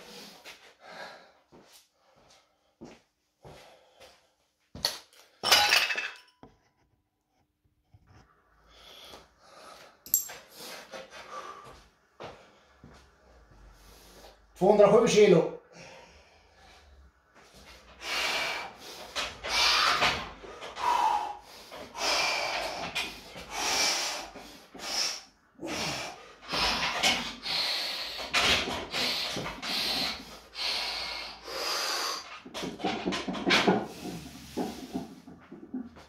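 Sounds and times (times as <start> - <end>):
man breathing hard: 0.0 - 4.4, 8.6 - 14.5, 15.6 - 32.5, 33.6 - 35.4.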